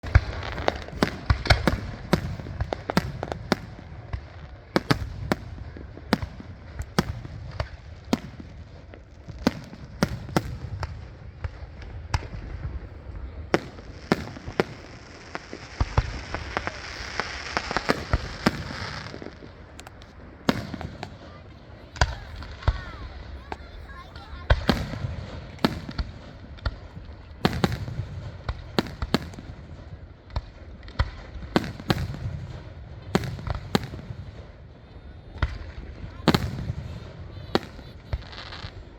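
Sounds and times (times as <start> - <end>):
fireworks bangs and pops: 0.0 - 38.9.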